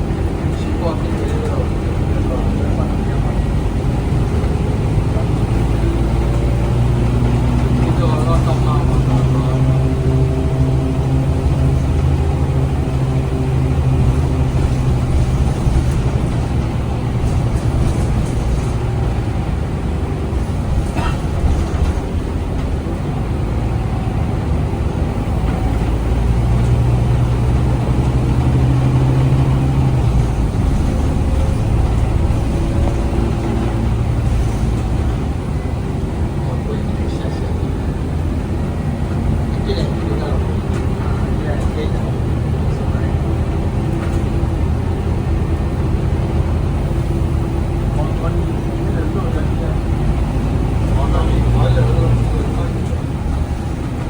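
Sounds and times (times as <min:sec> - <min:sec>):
bus engine hum from inside: 0:00.0 - 0:54.0.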